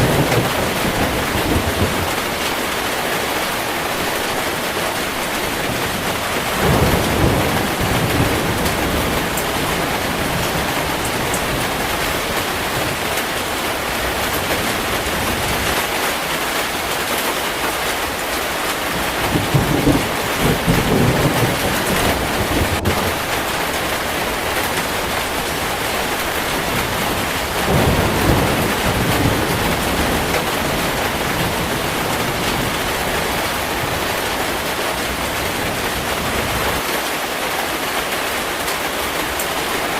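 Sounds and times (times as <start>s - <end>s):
thunder rumbling: 0.0s - 16.0s, 17.8s - 36.8s
heavy rain: 0.0s - 39.9s.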